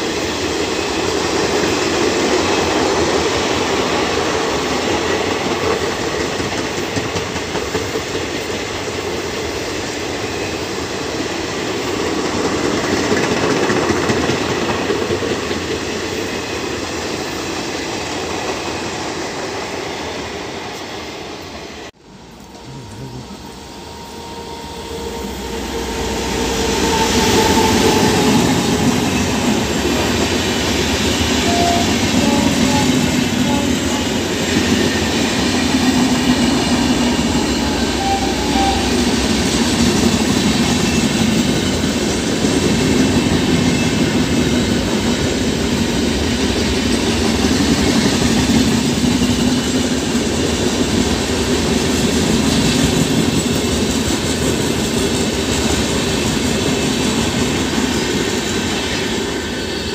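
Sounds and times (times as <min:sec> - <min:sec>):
electric locomotive passing: 0:00.0 - 0:59.9
train wheels rumbling on rails: 0:00.0 - 0:59.9.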